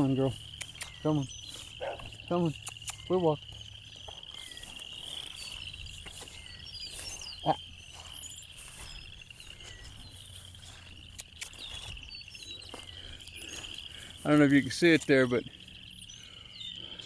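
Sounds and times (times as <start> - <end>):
faint bird chirps: 0.0 - 17.0
insects trilling: 0.0 - 17.0.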